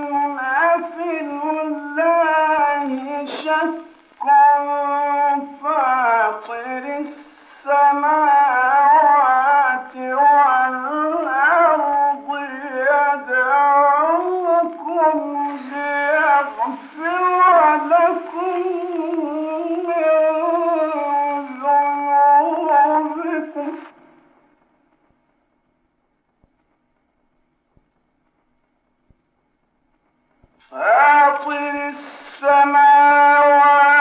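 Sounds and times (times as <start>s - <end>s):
man chanting recitation: 0.0s - 24.0s, 30.6s - 34.0s.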